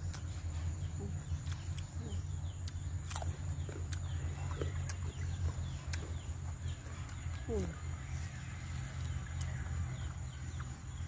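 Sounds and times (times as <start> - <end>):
mouth chewing food: 0.0 - 11.0
steady low hum: 0.0 - 11.0.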